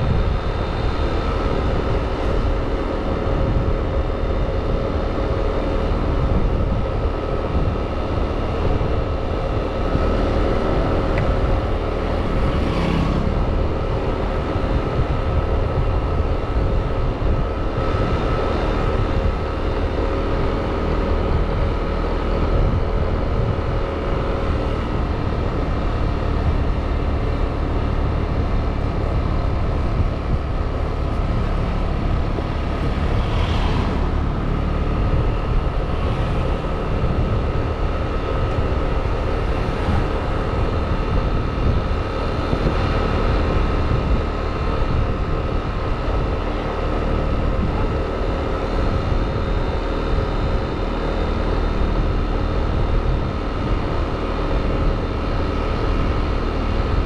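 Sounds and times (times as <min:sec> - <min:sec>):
scooter engine drone: 0:00.0 - 0:57.0
wind rumbling on microphone: 0:00.0 - 0:57.0.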